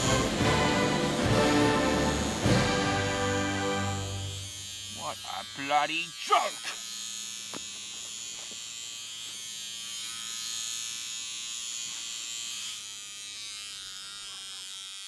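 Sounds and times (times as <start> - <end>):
electric trimmer buzzing: 0.0 - 15.0.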